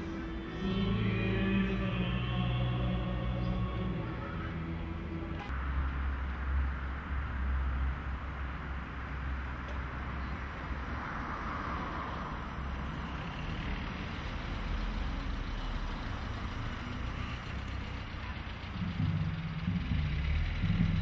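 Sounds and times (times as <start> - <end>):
car driving slowly past: 0.0 - 21.0
low car engine hum: 0.0 - 21.0
tyre noise on road: 0.0 - 21.0.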